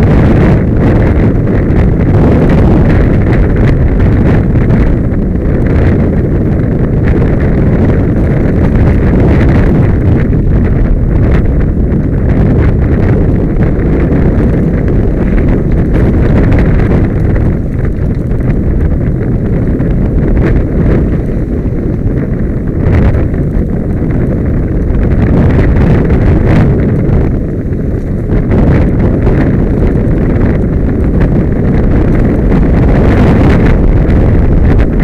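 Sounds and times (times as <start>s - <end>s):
tyres rumbling on dirt: 0.0s - 35.0s
wind buffeting microphone: 0.0s - 35.0s.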